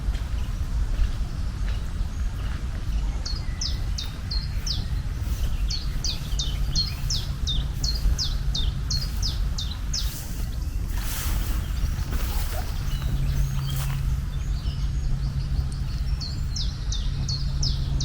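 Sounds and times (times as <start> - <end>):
low rumble: 0.0 - 18.0
bird chirping: 1.7 - 18.0.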